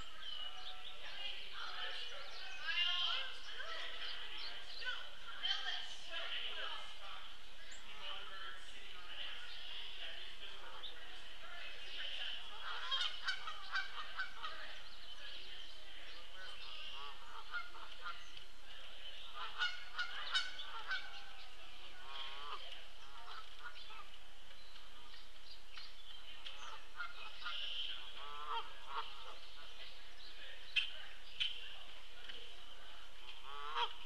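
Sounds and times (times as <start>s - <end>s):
birds chirping and calling: 0.0s - 34.0s.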